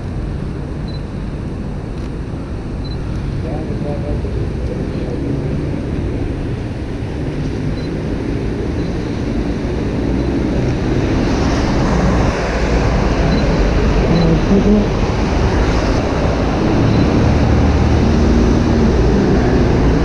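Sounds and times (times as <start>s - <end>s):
rain: 0.0s - 20.0s
traffic on a wet street: 0.0s - 20.0s.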